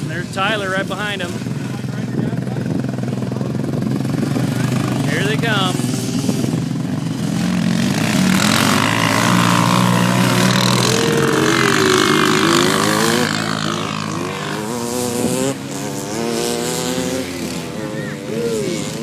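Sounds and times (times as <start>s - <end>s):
off-road vehicle engines revving: 0.0s - 19.0s.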